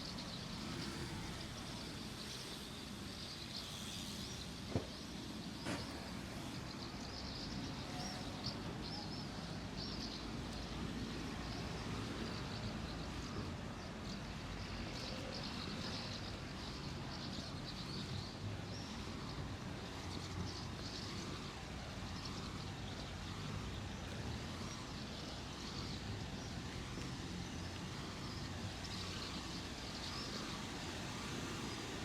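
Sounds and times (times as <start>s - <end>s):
low rumble of town traffic: 0.0s - 32.0s
small birds chirping: 0.0s - 32.0s.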